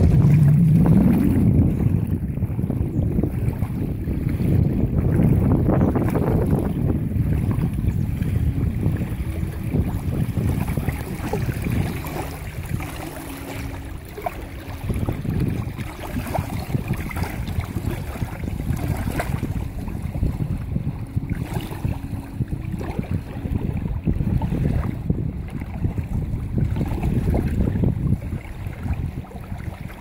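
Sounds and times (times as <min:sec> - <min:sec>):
small waves lapping: 0:00.0 - 0:30.0
wind buffeting microphone: 0:00.0 - 0:30.0.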